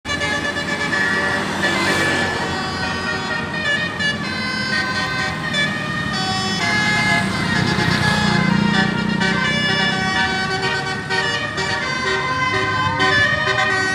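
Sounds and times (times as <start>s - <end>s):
multi-tone air horn melody: 0.0s - 13.9s.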